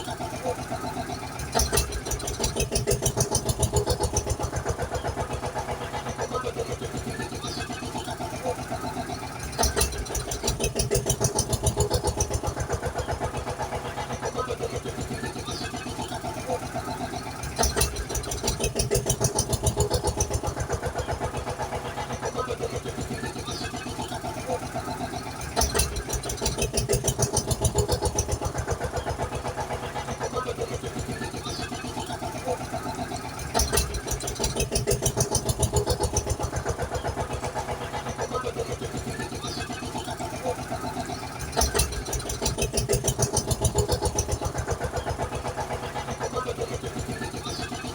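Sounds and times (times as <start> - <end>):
tractor engine cranking and idling: 0.0 - 47.9.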